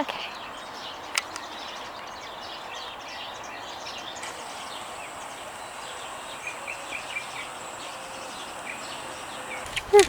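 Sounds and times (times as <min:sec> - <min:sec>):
outdoor background: 0:00.0 - 0:10.0
small birds chirping: 0:00.0 - 0:10.0.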